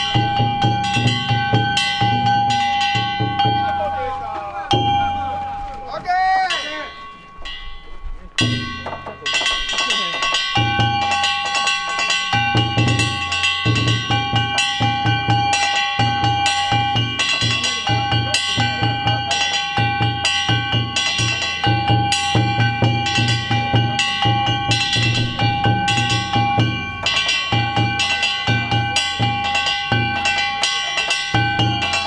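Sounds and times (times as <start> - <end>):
taiko drum beating fast: 0.0 - 5.4, 8.4 - 32.0
hand gongs ringing: 0.0 - 5.8, 6.4 - 32.0.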